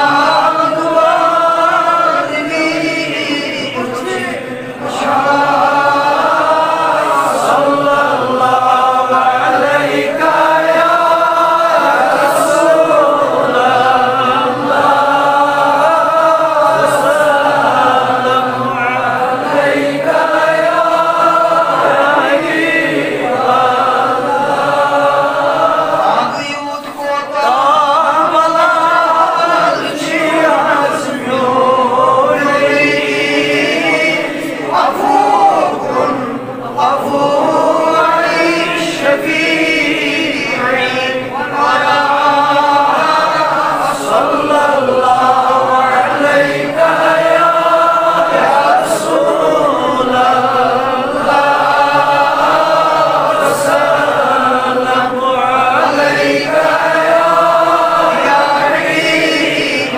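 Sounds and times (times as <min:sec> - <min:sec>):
men chanting melodically: 0:00.0 - 0:59.9.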